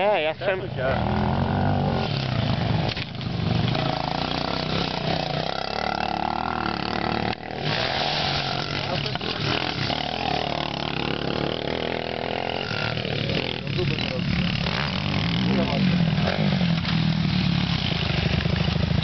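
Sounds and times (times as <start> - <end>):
motorbike engines revving: 0.0 - 19.0.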